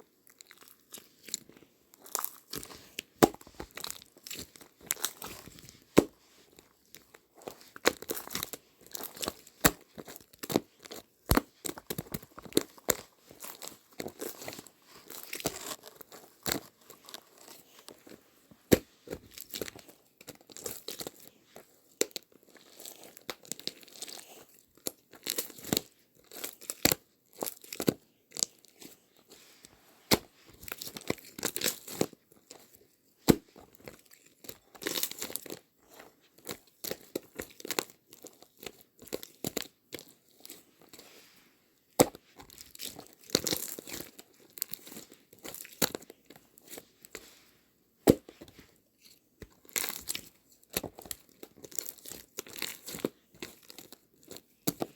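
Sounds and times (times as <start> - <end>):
crinkling and rustling handling: 0.0 - 54.9.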